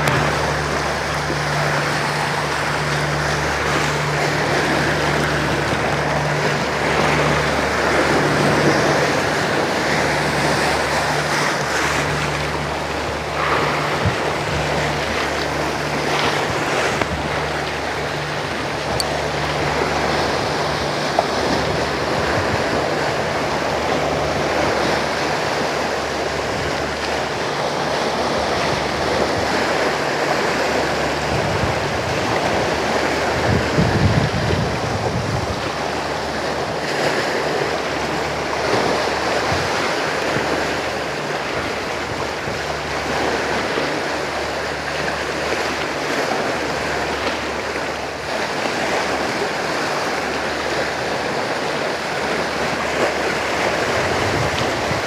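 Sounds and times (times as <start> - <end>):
sea waves on rocky shore: 0.0 - 55.0
wind on microphone: 0.0 - 55.0.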